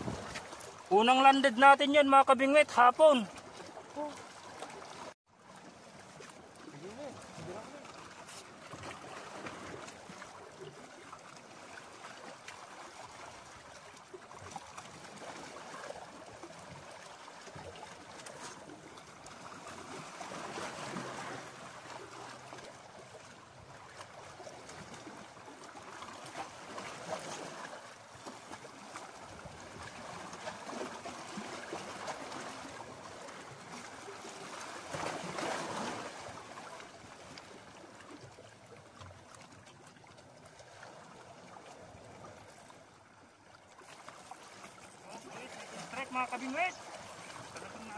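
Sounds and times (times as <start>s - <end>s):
waves lapping against rocks: 0.0s - 47.9s.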